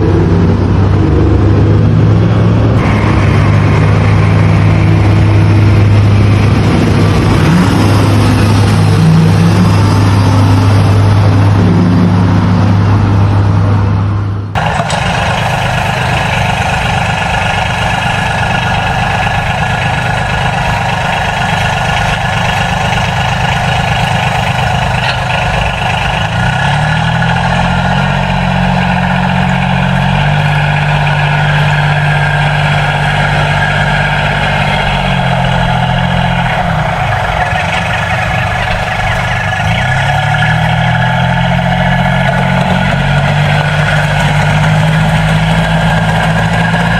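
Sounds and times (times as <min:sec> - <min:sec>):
engine rising in pitch: 0:00.0 - 0:46.9
tractor engine running: 0:00.0 - 0:46.9.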